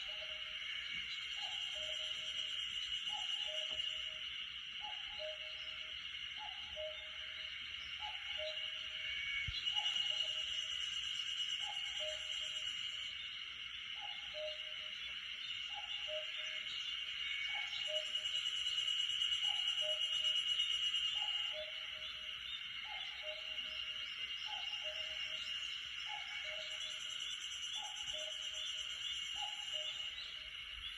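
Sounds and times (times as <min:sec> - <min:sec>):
high-pitched forest background: 0:00.0 - 0:30.9.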